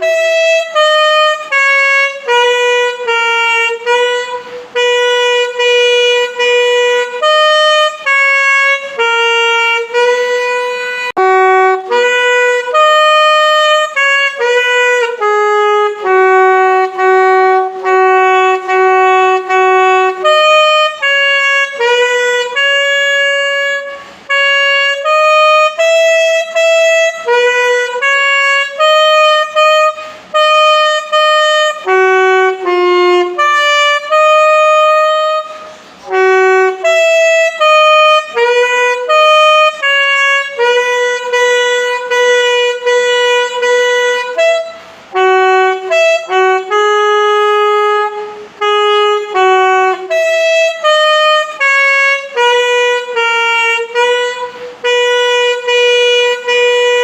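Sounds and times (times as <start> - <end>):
solo saxophone hymn melody: 0.0 - 57.0.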